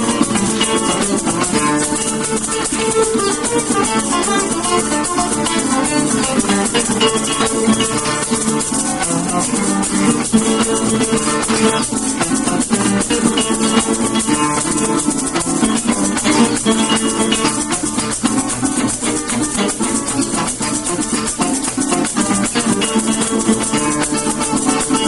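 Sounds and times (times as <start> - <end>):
maracas shaking: 0.0 - 25.0
plucked string instruments: 0.0 - 25.0.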